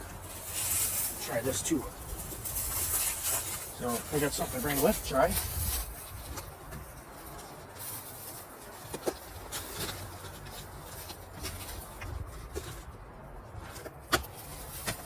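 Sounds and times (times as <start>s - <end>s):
camping gear rustling and tapping: 0.0s - 15.0s.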